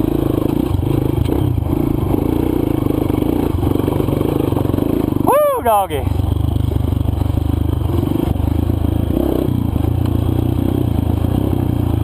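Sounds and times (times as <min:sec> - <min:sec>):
motorbike engine running steadily: 0:00.0 - 0:12.0.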